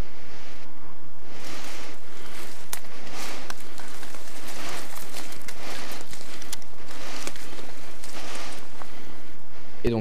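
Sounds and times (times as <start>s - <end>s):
footsteps through dry brush: 1.3s - 9.6s.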